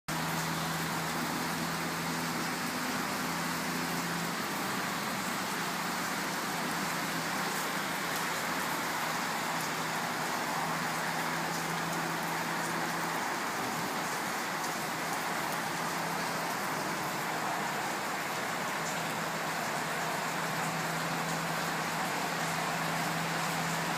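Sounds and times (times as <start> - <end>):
rain falling: 0.1 - 23.9.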